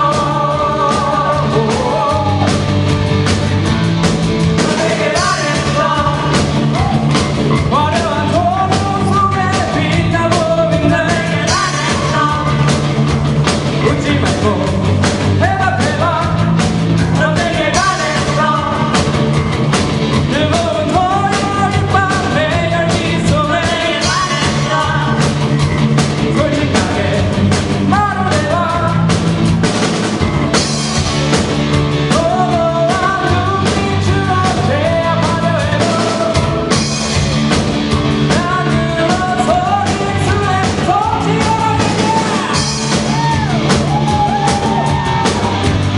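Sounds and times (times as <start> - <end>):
person singing: 0.0 - 3.2, 4.4 - 19.4, 20.2 - 25.5, 26.2 - 29.3, 31.9 - 37.0, 38.1 - 45.9
bass line: 0.0 - 45.9
drum kit: 0.0 - 45.9.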